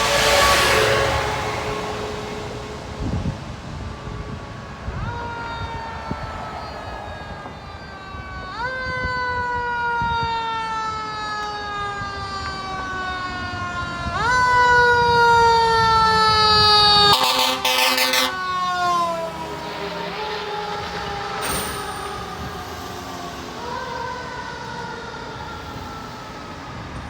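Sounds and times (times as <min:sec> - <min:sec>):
fire truck siren wailing: 0:00.0 - 0:27.0
low vehicle rumble: 0:00.0 - 0:27.0.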